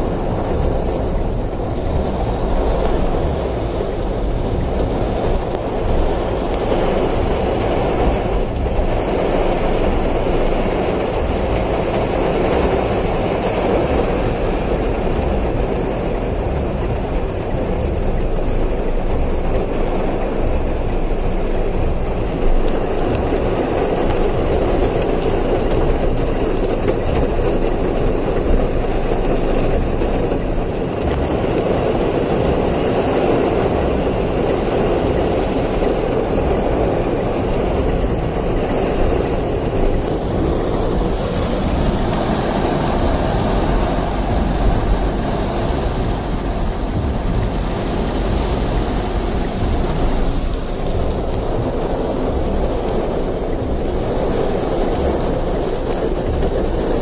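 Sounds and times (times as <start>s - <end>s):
floodwater rushing: 0.0s - 57.0s
heavy rain: 0.0s - 57.0s.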